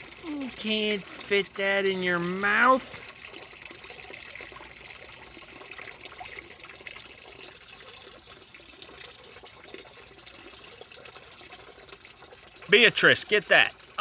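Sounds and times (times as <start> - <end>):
faint trickle of running water: 0.0 - 14.0.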